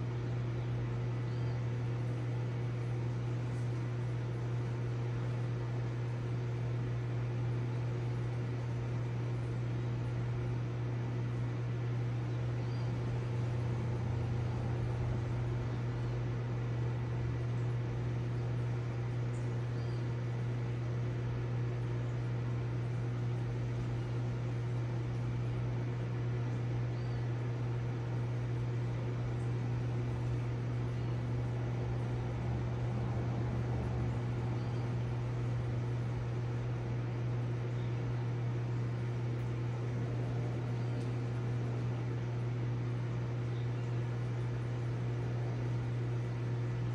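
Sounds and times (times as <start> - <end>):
aquarium pump humming: 0.0 - 46.9.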